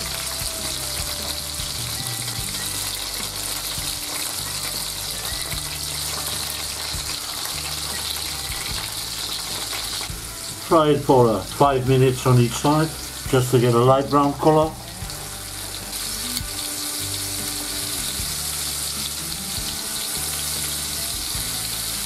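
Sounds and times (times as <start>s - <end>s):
meat sizzling in butter: 0.0s - 22.0s.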